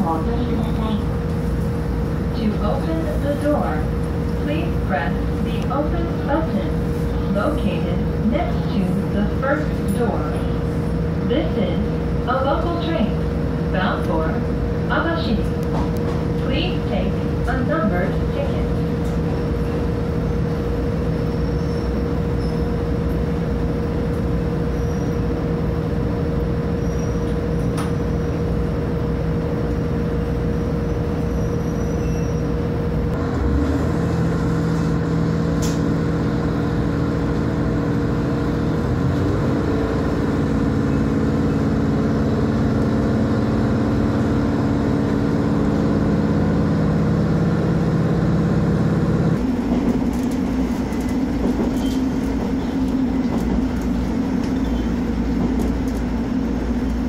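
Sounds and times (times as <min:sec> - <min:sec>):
diesel train engine: 0:00.0 - 0:57.0.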